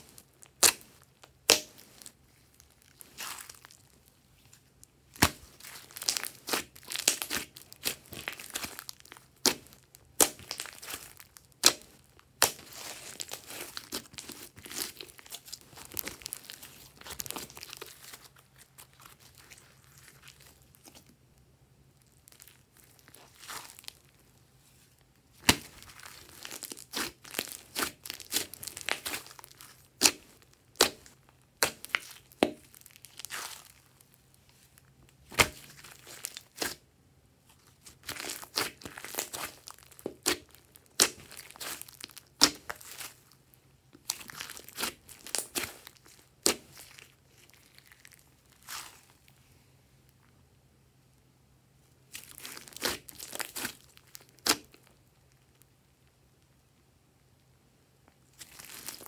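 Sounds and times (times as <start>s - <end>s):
hands squishing slime: 0.0s - 21.2s, 22.0s - 24.2s, 25.2s - 34.1s, 34.7s - 36.8s, 37.5s - 49.4s, 52.1s - 55.0s, 58.3s - 59.0s.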